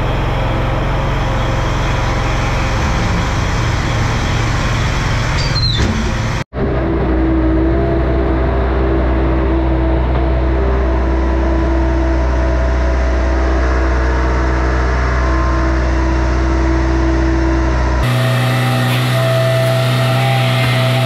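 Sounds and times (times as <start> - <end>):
steady higher hum: 0.0 - 5.4, 6.6 - 21.0
road noise: 0.0 - 21.0
vehicle engine drone: 0.0 - 21.0.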